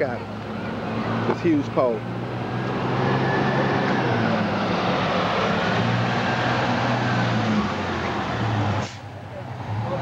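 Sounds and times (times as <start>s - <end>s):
vehicle engine hum: 0.0s - 10.0s.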